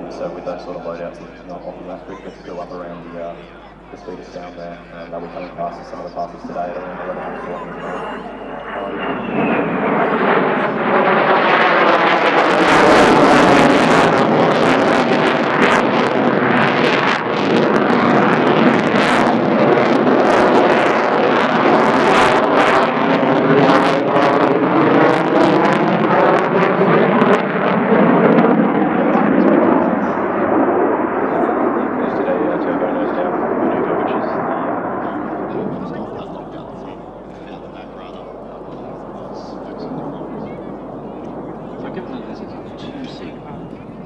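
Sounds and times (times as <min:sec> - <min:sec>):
fighter jet flying overhead: 0:00.0 - 0:44.0.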